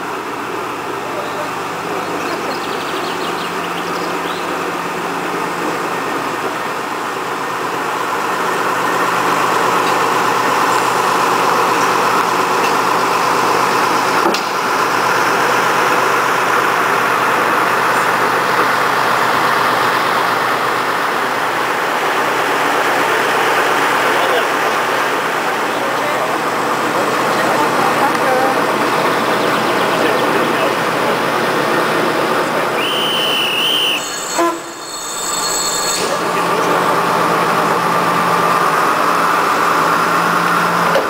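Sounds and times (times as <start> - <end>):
diesel locomotive running: 0.0 - 41.0.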